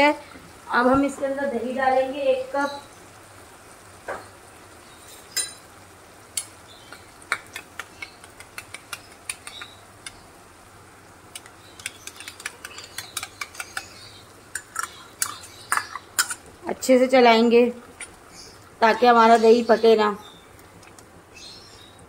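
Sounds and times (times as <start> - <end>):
frying sizzle: 0.0 - 22.0.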